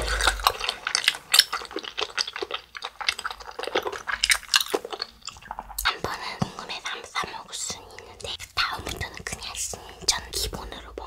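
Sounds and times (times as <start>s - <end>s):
wet sticky chewing: 0.0s - 10.0s.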